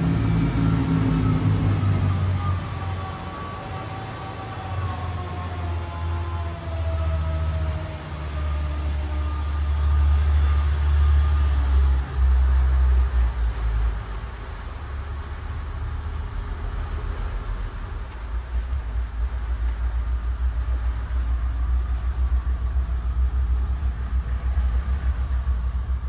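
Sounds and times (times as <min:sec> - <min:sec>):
boat engines deep rumble: 0:00.0 - 0:26.0.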